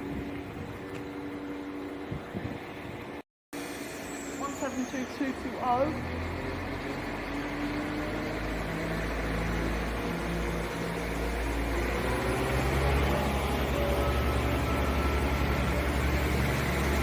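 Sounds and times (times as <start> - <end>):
diesel train engines accelerating: 0.0 - 17.0.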